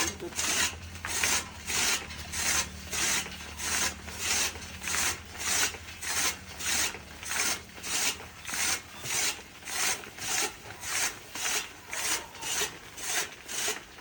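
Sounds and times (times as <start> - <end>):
chaff cutter chopping grass: 0.0 - 14.0.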